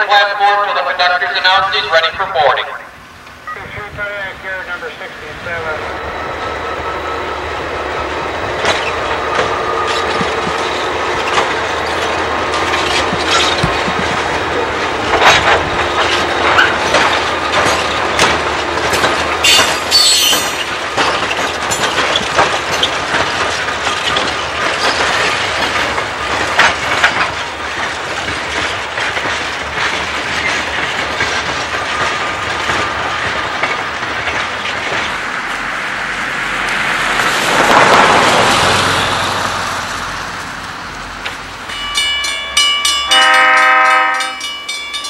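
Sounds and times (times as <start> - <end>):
freight train rolling past: 0.0 - 45.0
steel wheels clacking on rails: 3.2 - 45.0.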